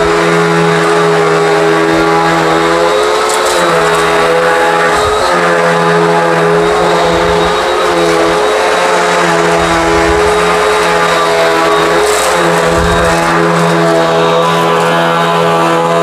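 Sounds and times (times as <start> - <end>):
brushroll agitating rug: 0.0 - 16.0
vacuum cleaner motor whine: 0.0 - 16.0.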